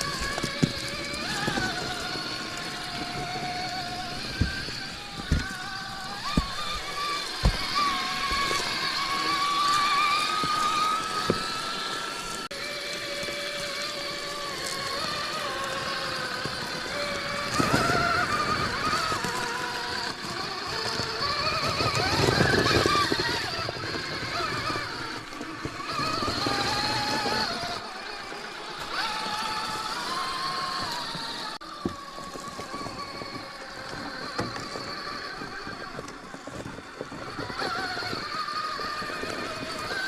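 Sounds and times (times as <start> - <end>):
drivetrain grinding: 0.0 - 40.0
rc car motor whining: 0.0 - 40.0.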